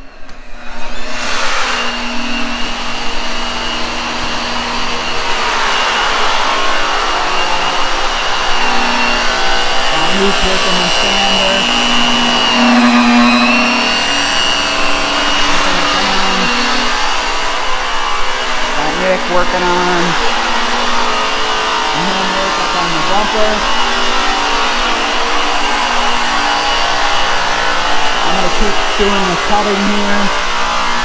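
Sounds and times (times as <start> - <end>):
polishing tool whining on metal: 0.0 - 31.0.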